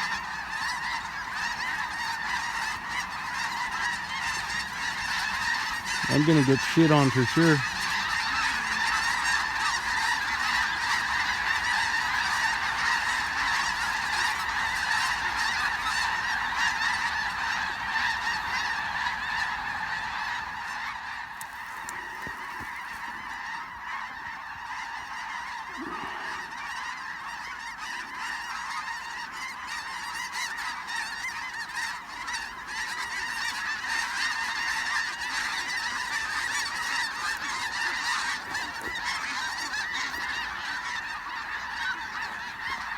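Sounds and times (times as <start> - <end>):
geese honking: 0.0 - 42.9.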